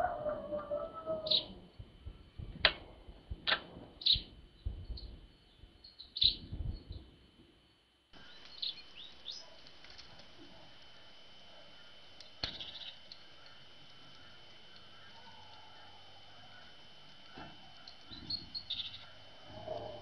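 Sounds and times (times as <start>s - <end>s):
birds chirping: 0.0s - 1.9s, 4.0s - 7.0s, 8.2s - 20.0s
faint steady hiss: 1.3s - 20.0s.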